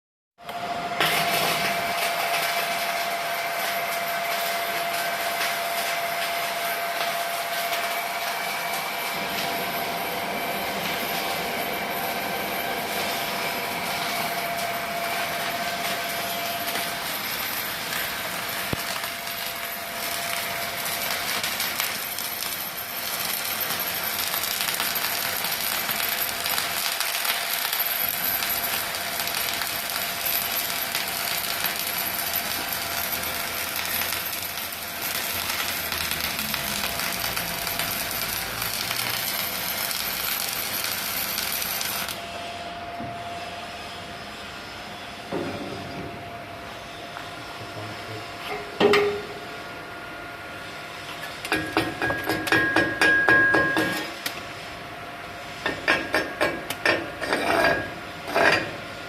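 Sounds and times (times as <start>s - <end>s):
welding arc sizzling: 0.9s - 59.0s.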